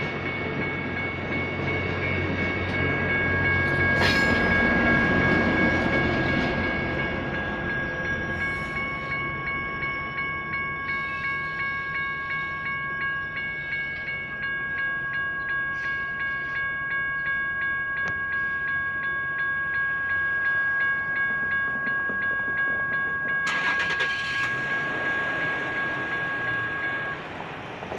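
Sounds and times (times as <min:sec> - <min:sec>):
electronic crossing bells ringing: 0:00.0 - 0:27.4.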